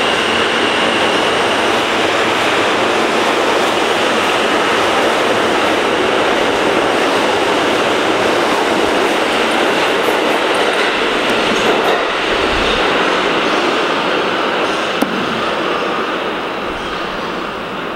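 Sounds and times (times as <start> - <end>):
subway train running past: 0.0 - 17.9.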